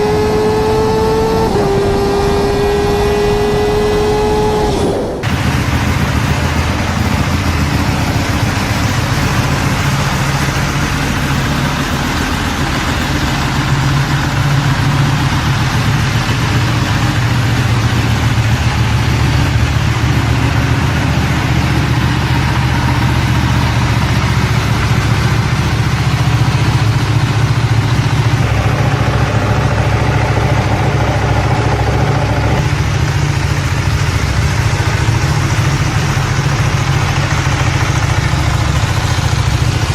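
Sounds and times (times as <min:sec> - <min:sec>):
motorcycle engine idling: 0:05.2 - 0:39.9.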